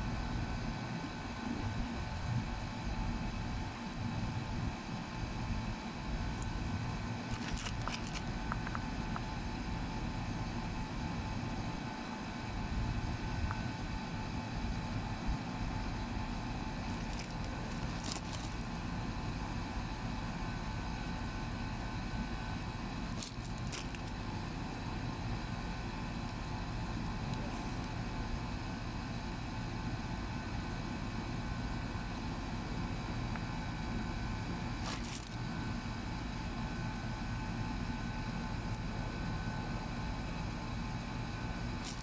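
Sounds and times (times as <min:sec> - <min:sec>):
motor hum: 0:00.0 - 0:42.0.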